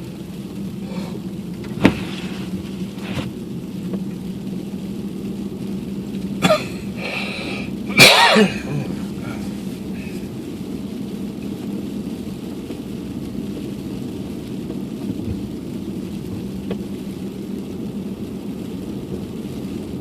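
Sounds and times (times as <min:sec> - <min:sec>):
car cabin hum: 0:00.0 - 0:20.0.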